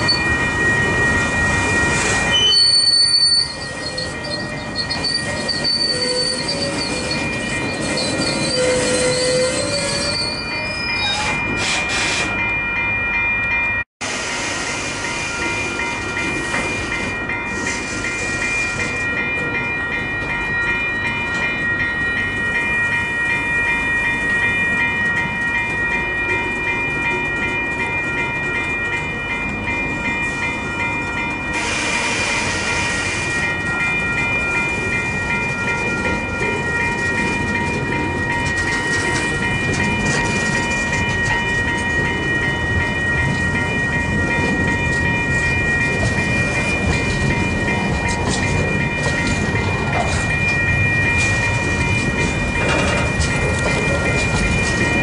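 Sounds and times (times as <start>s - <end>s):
train wheels on rails: 0.0s - 12.8s, 14.0s - 55.0s
level crossing bells ringing: 0.0s - 13.8s, 15.0s - 55.0s.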